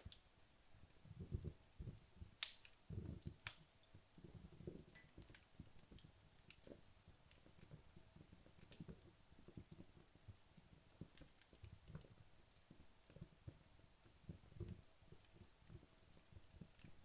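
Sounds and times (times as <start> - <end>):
fireplace logs crackling: 0.0 - 17.0.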